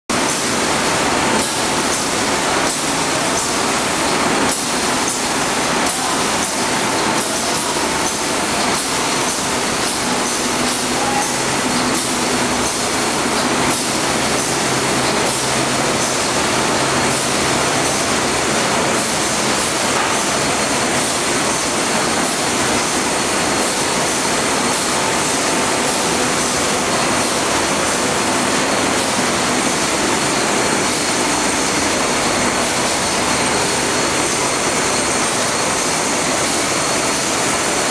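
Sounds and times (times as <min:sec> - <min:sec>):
machine running steadily: 0:00.1 - 0:37.9.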